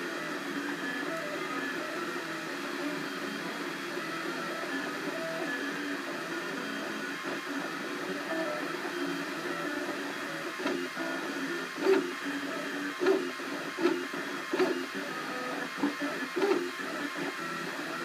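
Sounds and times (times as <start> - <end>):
printer stepper motors whining: 0.0 - 18.0.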